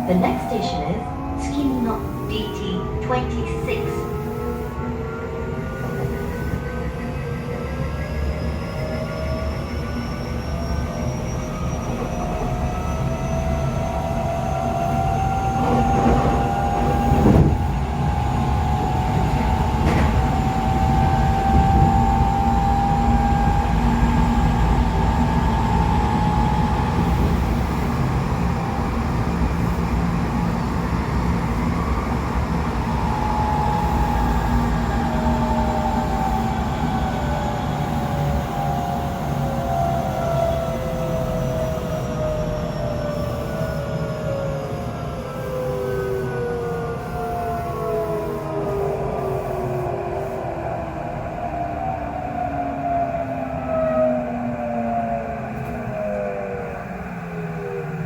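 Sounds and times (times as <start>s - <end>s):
train motor whine: 0.0s - 51.1s
wheels rumbling on rail: 0.0s - 58.0s.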